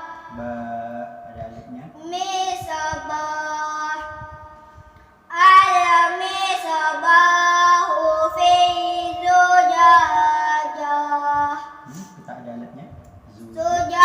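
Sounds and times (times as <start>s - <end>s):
child reciting melodically: 0.0s - 12.2s, 13.2s - 14.0s.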